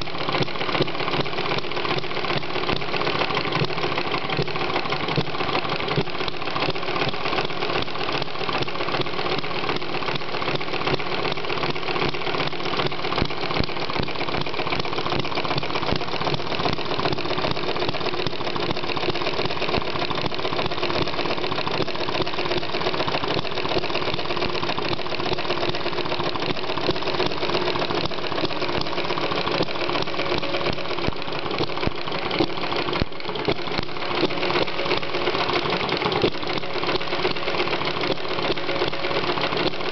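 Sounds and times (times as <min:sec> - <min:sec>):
model engine mechanical beat: 0:00.0 - 0:39.9.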